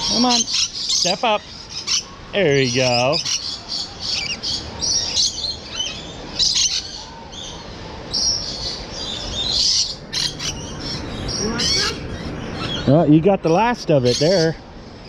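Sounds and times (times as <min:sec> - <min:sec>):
lorikeets screeching and chirping: 0:00.0 - 0:14.6.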